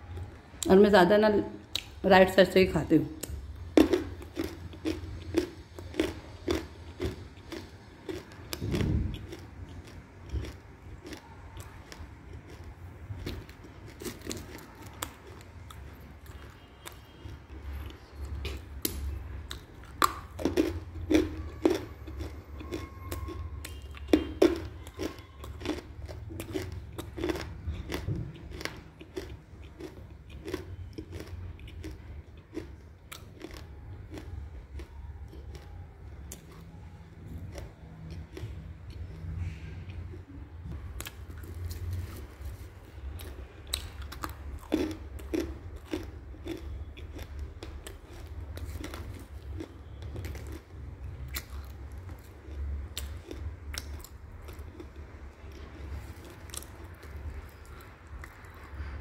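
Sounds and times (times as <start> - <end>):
crunching and chewing clay chunks: 2.9 - 59.0.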